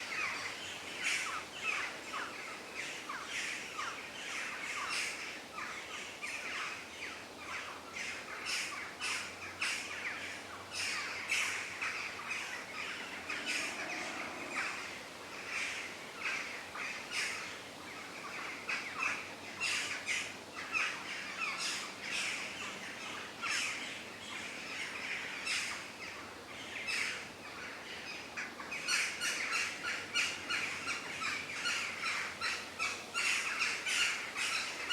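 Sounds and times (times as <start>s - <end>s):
forest birds chirping: 0.0s - 34.9s.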